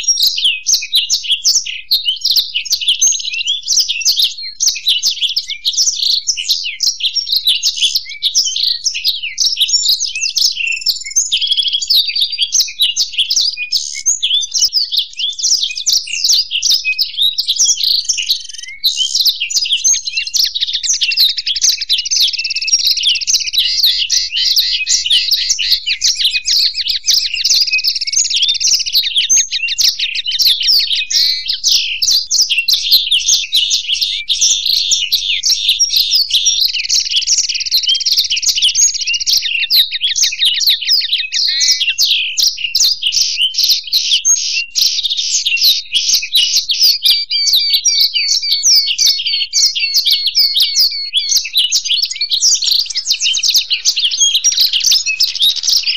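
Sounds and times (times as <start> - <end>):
long buzzing bird trill: 0.0 - 42.5, 46.9 - 55.9
birds twittering and trilling: 0.0 - 55.9.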